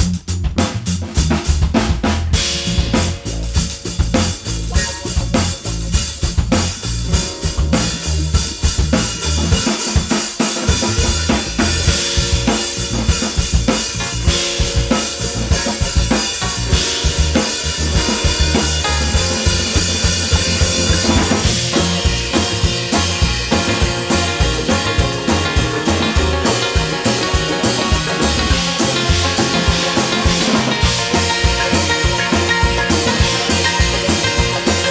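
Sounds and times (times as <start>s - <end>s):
drum kit beat: 0.0s - 34.9s.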